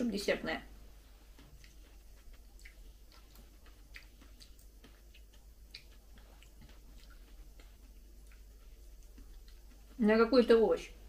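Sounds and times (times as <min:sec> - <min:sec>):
quiet chewing: 0:00.9 - 0:10.6.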